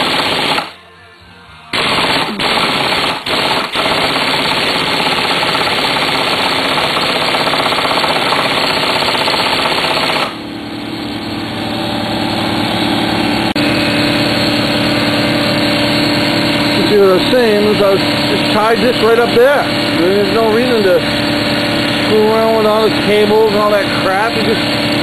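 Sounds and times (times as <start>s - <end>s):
pneumatic impact wrench hammering: 0.0s - 0.7s, 1.7s - 25.0s
air compressor motor humming: 0.0s - 25.0s.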